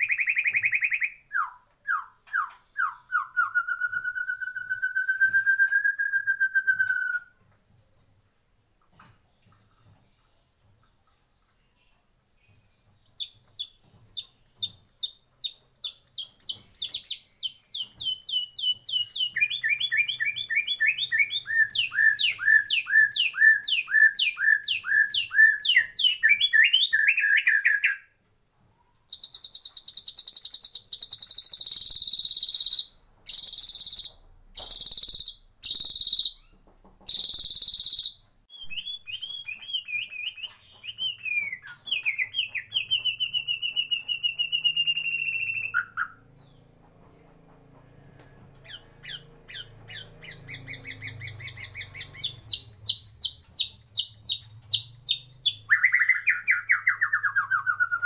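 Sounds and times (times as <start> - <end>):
bird singing: 0.0 - 28.2, 28.8 - 58.0.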